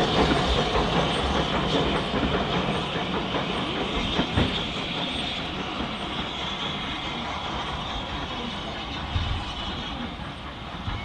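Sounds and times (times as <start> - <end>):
steam train wheels clacking: 0.0 - 11.0.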